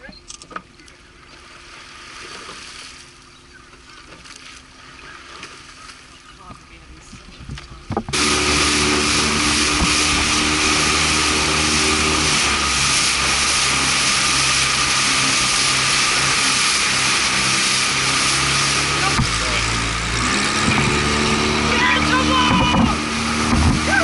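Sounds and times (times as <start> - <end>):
outboard motor running: 0.0 - 24.0
rush of wind and water: 1.1 - 24.0.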